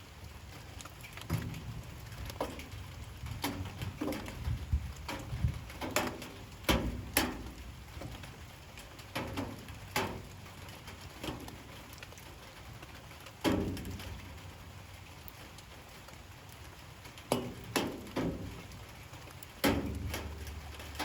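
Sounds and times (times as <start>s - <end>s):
light rain patter: 0.0s - 21.0s
drops dripping on hard surface: 0.2s - 21.0s.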